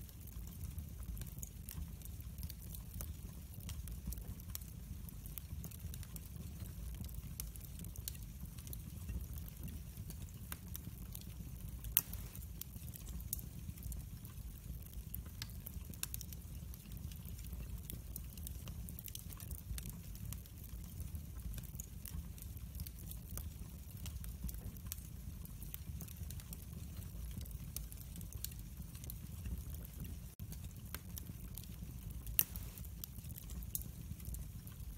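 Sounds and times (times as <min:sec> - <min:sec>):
low fire rumble: 0:00.0 - 0:34.9
wood fire crackling: 0:00.0 - 0:34.9.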